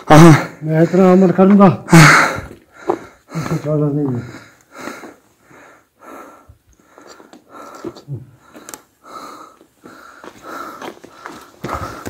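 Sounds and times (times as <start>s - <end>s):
person panting: 1.9s - 12.0s.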